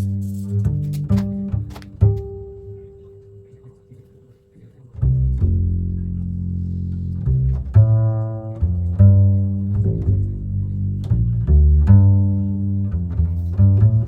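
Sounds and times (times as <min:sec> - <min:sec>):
low string music: 0:00.0 - 0:14.0.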